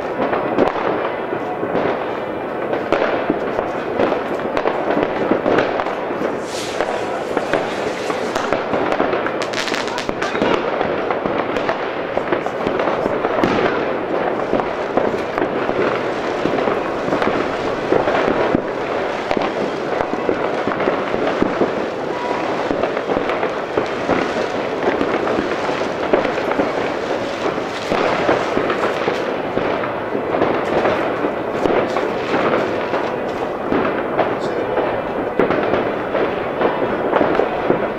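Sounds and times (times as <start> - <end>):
distant fireworks crackling: 0.0 - 37.9
loud firework bangs: 0.0 - 37.9.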